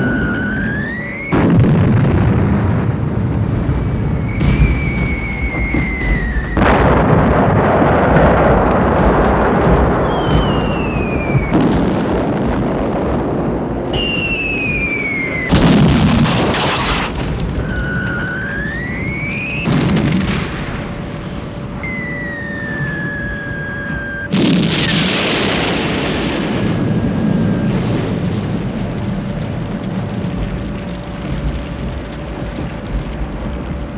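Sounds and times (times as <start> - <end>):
bombs whistling down: 0.0 - 33.9
continuous low rumble: 0.0 - 33.9
explosions: 0.0 - 33.9.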